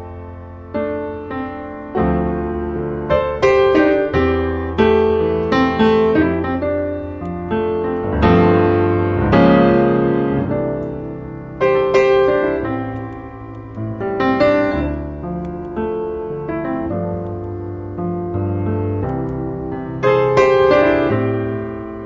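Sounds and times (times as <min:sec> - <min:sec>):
piano chords ringing: 0:00.0 - 0:22.0.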